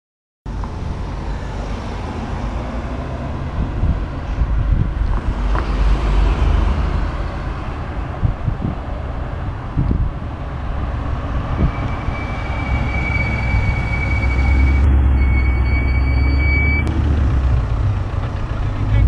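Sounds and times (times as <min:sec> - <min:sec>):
cars driving past: 0:00.5 - 0:19.0
deep low rumble: 0:03.3 - 0:19.0.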